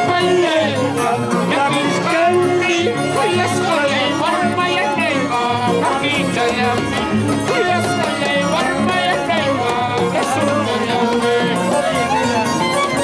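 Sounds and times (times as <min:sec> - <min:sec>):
harps and violins playing folk music: 0:00.0 - 0:13.0.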